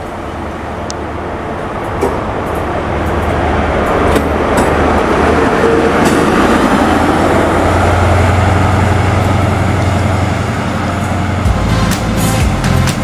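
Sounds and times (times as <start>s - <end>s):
low diesel drone: 0.0s - 13.0s
train wheels rumbling on rails: 0.0s - 13.0s.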